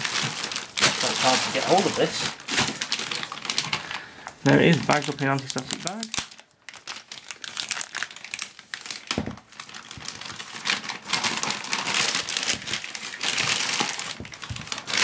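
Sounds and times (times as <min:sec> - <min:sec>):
plastic bag rustling and crackling: 0:00.0 - 0:15.0.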